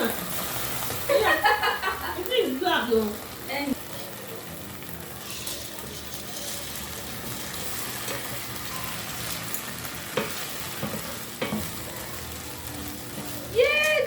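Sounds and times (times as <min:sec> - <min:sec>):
caramel sizzling in a pot: 0:00.0 - 0:14.0.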